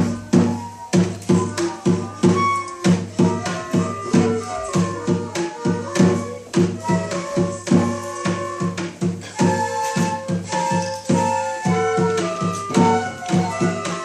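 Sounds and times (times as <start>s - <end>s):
held pitched melody line: 0.0s - 14.0s
steady drum strokes: 0.0s - 14.0s.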